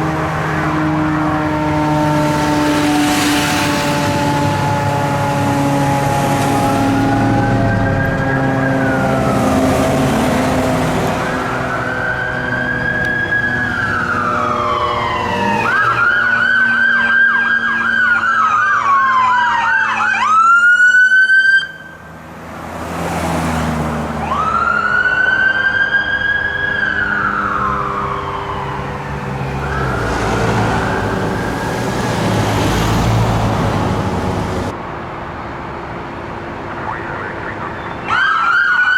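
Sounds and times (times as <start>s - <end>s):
electronic siren wailing: 0.0s - 22.0s, 24.2s - 32.8s, 36.7s - 38.9s
vehicle hum: 0.0s - 38.9s.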